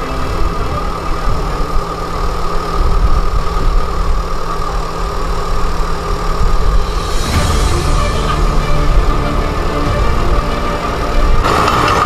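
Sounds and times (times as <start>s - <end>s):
diesel engine rumbling: 0.0s - 12.0s
high engine whine: 0.0s - 12.0s.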